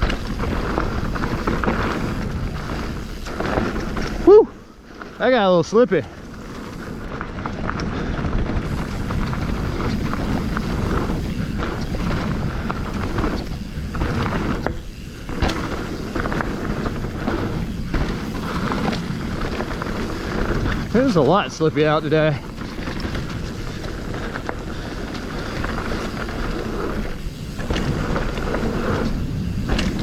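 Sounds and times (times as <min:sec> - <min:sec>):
bike clicking over roots: 0:00.0 - 0:30.0
bike tyres rolling on dirt: 0:00.0 - 0:30.0.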